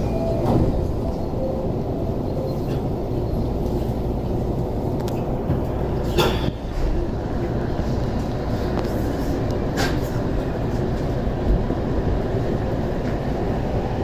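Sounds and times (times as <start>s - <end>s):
standing train rumble and hum: 0.0s - 14.0s.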